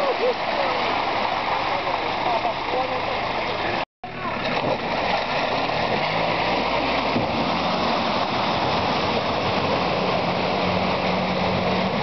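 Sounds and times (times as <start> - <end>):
water and mud splashing: 0.0 - 12.0
car engine running low: 0.2 - 12.0.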